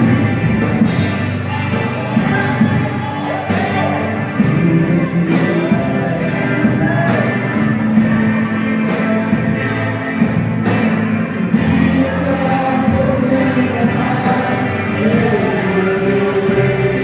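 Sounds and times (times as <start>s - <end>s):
drum kit beat: 0.0s - 17.0s
loud rock music: 0.0s - 17.0s
person singing: 0.0s - 17.0s.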